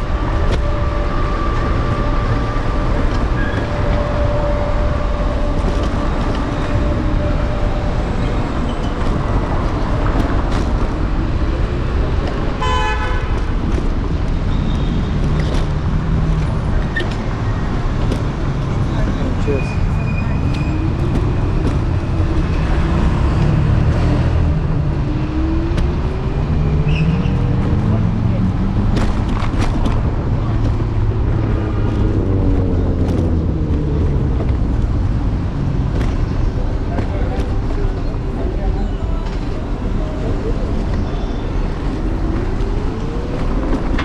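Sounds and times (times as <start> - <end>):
city street traffic rumble: 0.0 - 44.0.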